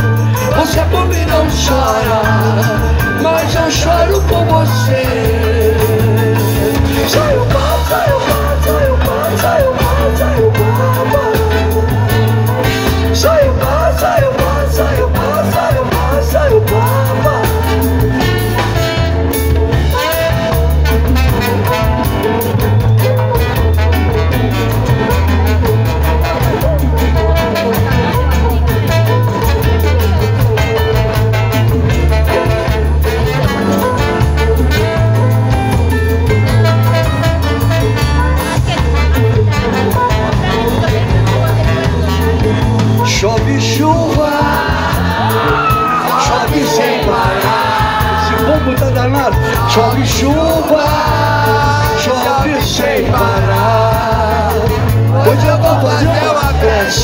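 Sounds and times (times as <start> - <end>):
drum and percussion beat: 0.0 - 57.0
horns: 0.0 - 57.0
keyboard: 0.0 - 57.0
live band playing instrumental: 0.0 - 57.0
pulsing bass line: 0.0 - 57.0.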